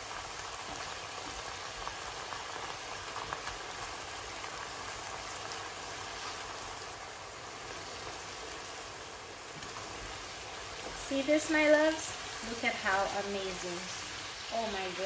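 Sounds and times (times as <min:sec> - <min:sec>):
sauce bubbling and sizzling in wok: 0:00.0 - 0:15.0.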